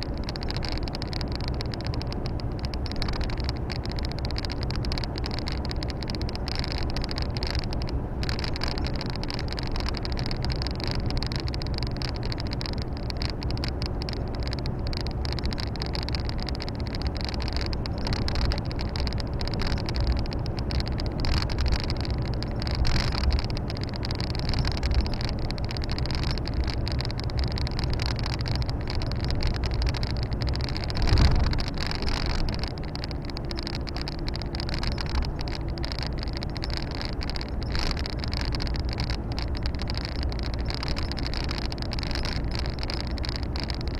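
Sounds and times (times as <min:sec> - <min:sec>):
road and tyre noise: 0:00.0 - 0:43.9.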